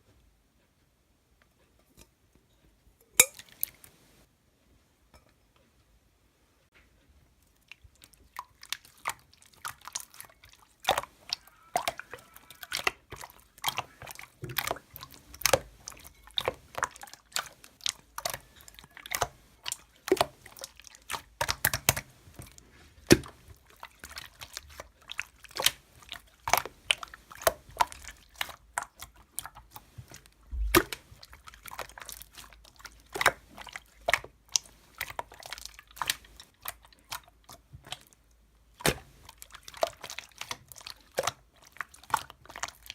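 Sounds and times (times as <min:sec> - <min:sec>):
slime squished by hand: 0:07.7 - 0:42.9.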